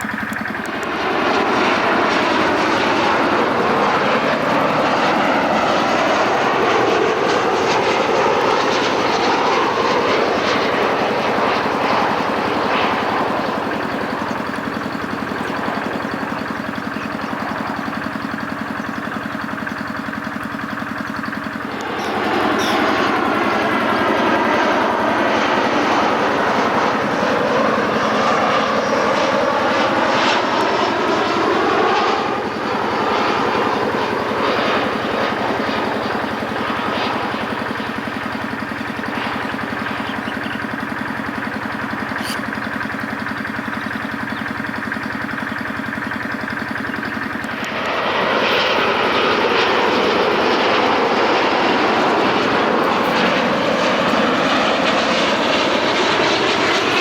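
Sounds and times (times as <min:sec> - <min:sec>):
jet airliner engines passing low: 0:00.0 - 0:57.0.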